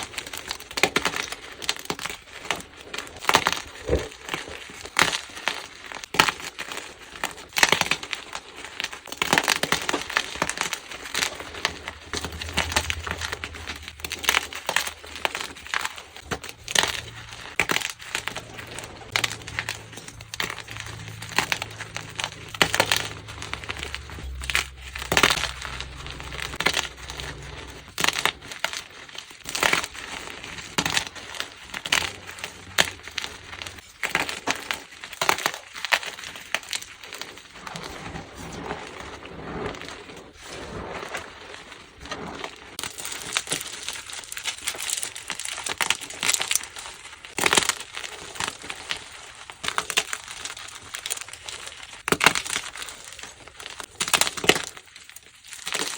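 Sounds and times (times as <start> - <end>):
chalk blocks crunching: 0.0 - 55.9.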